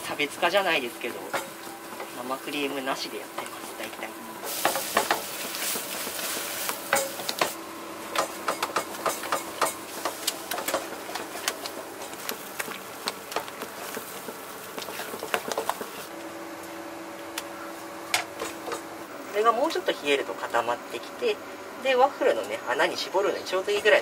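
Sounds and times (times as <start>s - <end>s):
light frying sizzle: 0.0s - 20.2s.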